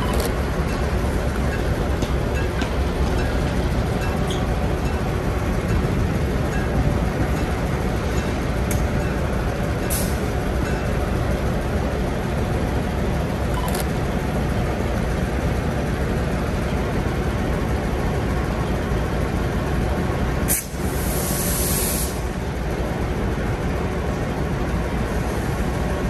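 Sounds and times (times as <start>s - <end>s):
diesel railcar rumbling: 0.0s - 26.0s.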